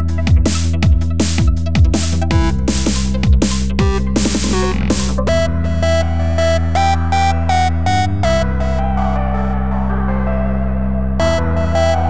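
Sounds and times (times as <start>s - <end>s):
steady bass: 0.0s - 12.0s.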